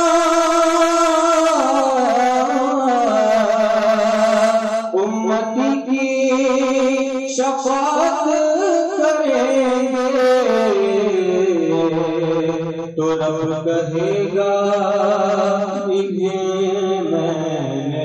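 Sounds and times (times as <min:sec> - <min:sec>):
melodic voice singing long notes: 0:00.0 - 0:17.8.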